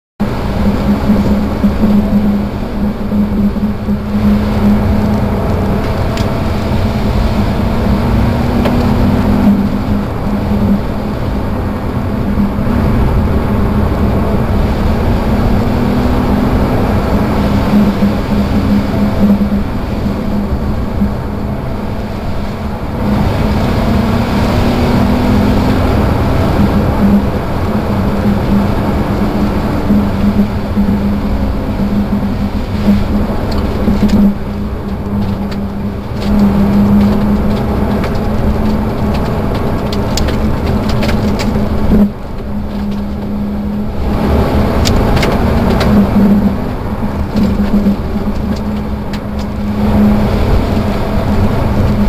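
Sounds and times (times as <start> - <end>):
car engine pulling hard: 0.2 - 52.0
tyre and road rumble: 0.2 - 52.0.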